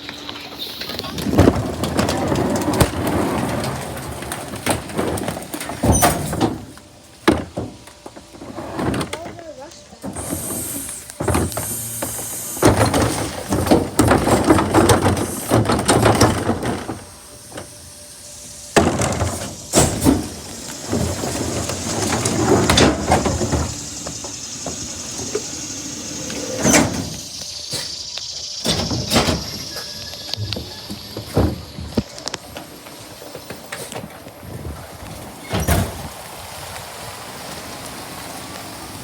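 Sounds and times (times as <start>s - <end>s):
garbage truck clattering and rumbling: 0.0s - 39.0s.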